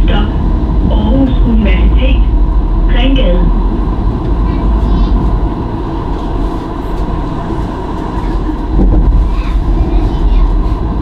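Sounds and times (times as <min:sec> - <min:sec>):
tram rumbling along track: 0:00.0 - 0:11.0.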